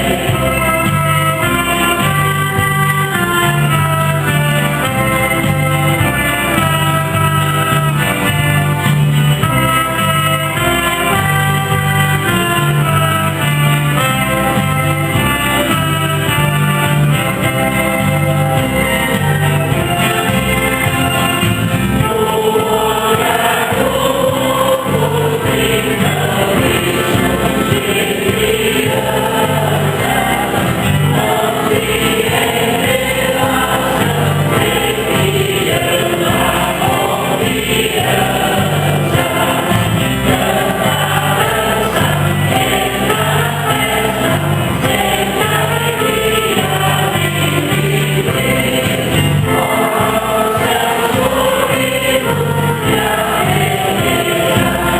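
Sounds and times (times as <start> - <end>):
choir singing a hymn: 0.0 - 54.9
instrumental accompaniment: 0.0 - 54.9.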